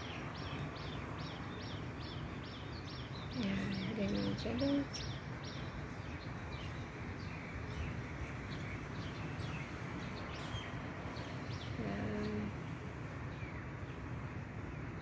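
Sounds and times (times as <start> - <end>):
bird chirps: 0.0 - 12.6
low urban background noise: 0.0 - 15.0.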